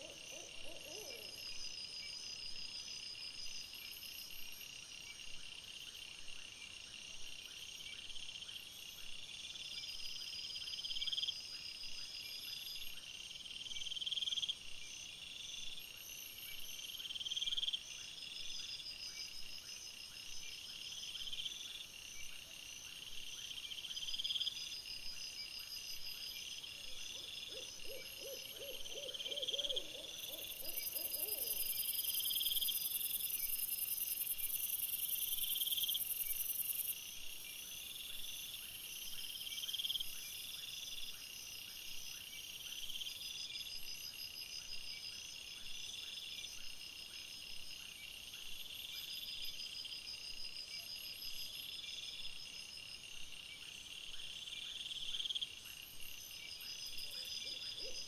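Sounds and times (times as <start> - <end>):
night insects trilling: 0.0 - 5.0, 7.6 - 58.0.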